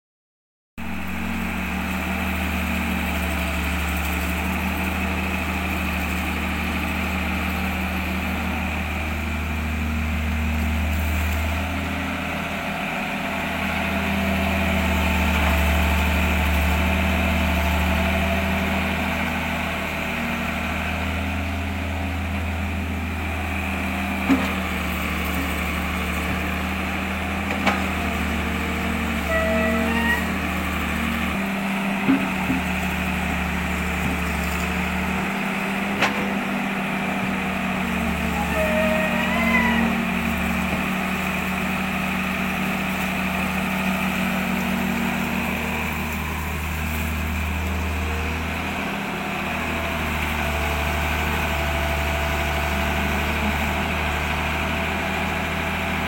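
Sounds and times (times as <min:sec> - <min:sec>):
engine idling: 0:00.8 - 0:56.0.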